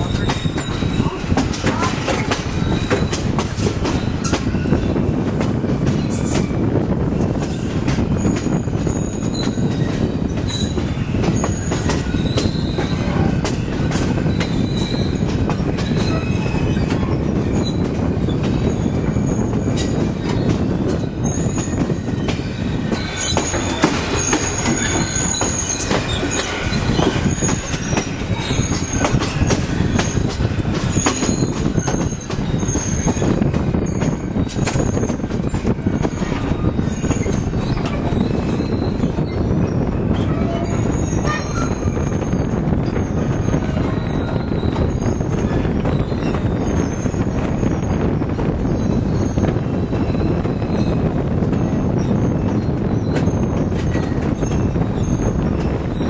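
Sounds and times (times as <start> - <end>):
steel wheel squeals: 0.0 - 56.0
train cars rumbling on rails: 0.0 - 56.0.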